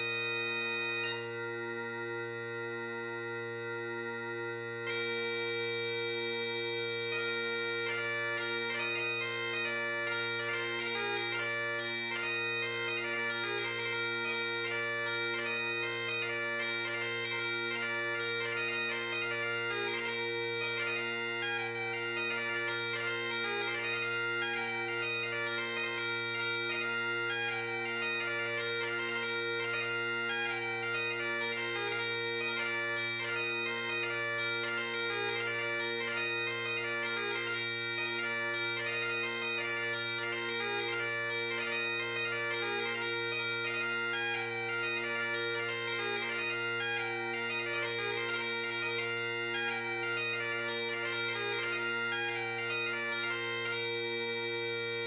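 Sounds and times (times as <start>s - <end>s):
bagpipe chanter melody: 0.0s - 55.0s
bagpipe drone: 0.0s - 55.0s.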